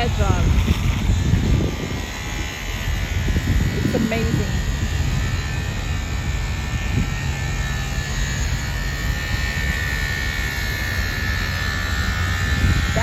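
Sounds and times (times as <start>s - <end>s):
low rumble: 0.0s - 13.0s
polishing machine motor whining: 0.0s - 13.0s.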